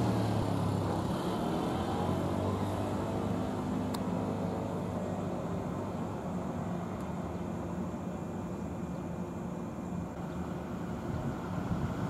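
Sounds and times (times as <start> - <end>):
outdoor rumble: 0.0 - 12.0.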